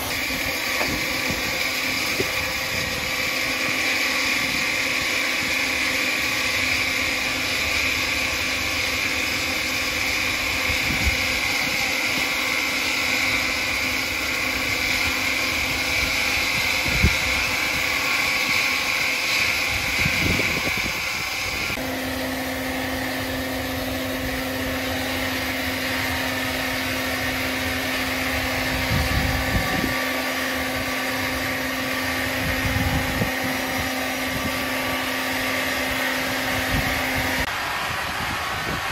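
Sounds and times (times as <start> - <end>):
woodworking machinery humming: 0.0 - 38.9.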